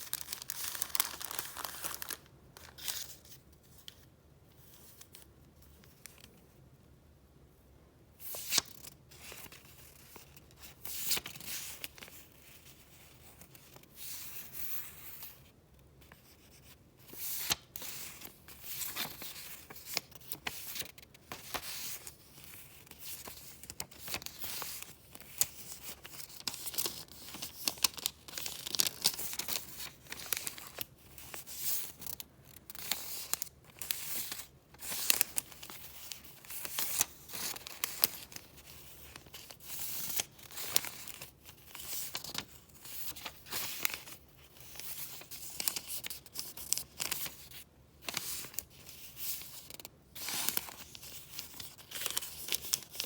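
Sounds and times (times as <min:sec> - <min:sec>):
paper crinkling and rustling: 0:00.0 - 0:06.5, 0:08.2 - 0:53.0.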